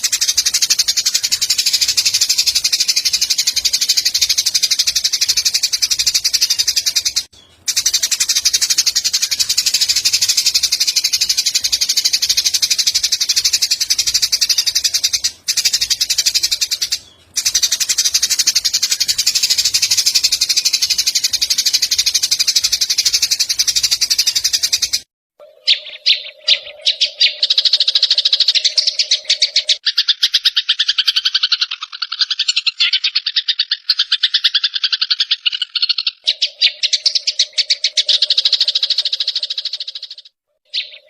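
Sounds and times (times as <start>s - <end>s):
bird song: 0.0s - 41.0s
sharp bird calls: 0.0s - 41.0s
sparrows chattering: 0.0s - 41.0s.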